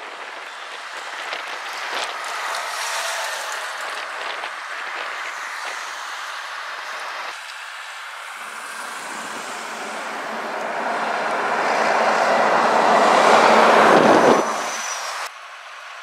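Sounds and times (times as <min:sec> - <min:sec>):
truck engine and tyre noise: 0:00.0 - 0:16.0.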